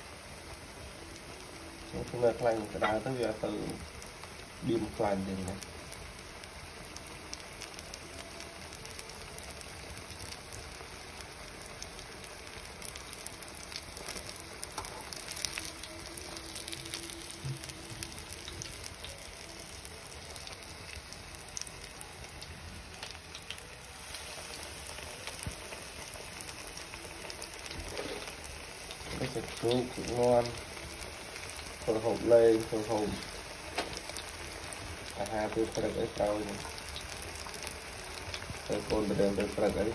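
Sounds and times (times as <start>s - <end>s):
meat deep-frying in oil: 0.0s - 39.9s.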